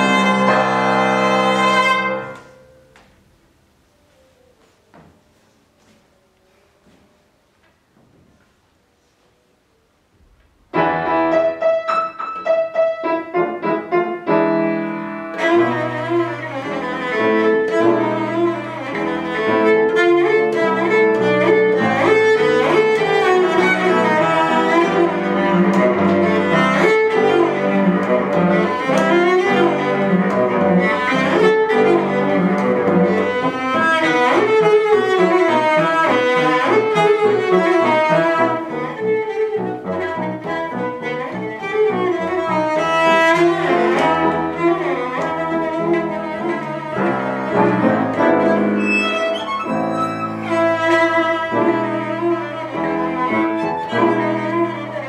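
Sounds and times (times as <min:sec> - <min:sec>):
cello: 0:00.0 - 0:03.1, 0:10.8 - 0:55.0
grand piano: 0:00.0 - 0:55.0.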